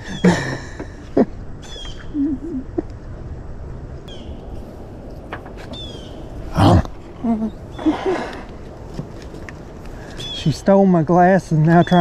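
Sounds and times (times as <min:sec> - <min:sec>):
birds chirping: 0:00.0 - 0:03.0, 0:04.0 - 0:12.0.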